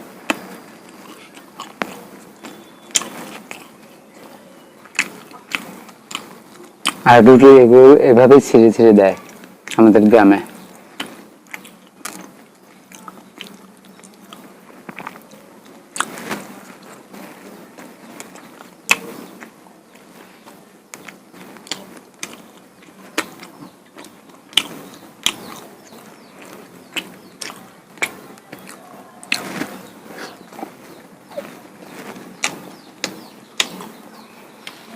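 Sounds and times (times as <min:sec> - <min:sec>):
chewing and eating by hand: 0:00.2 - 0:07.4, 0:09.2 - 0:34.9.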